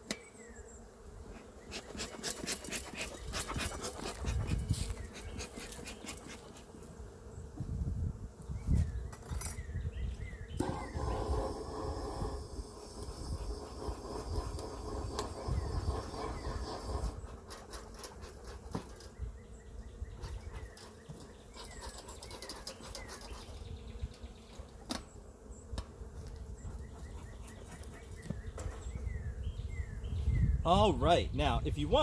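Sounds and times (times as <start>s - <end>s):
honeybees buzzing: 0.0s - 30.6s.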